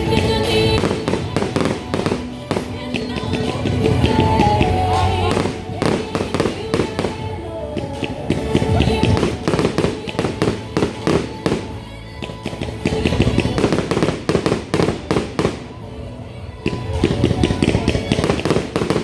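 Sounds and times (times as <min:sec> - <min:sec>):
fireworks popping and banging: 0:00.0 - 0:15.8, 0:16.6 - 0:19.0.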